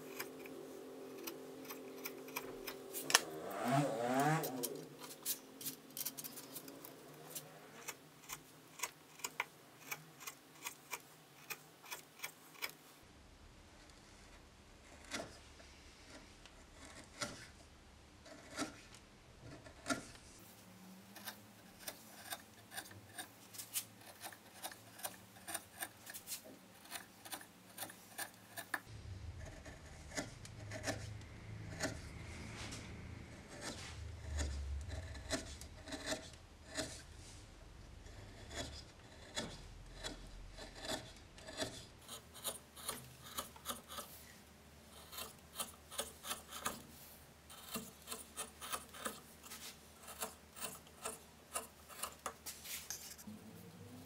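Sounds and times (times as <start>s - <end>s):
gouge scraping wood: 0.0s - 12.8s, 13.9s - 17.6s, 18.2s - 20.5s, 21.1s - 37.4s, 38.0s - 53.3s.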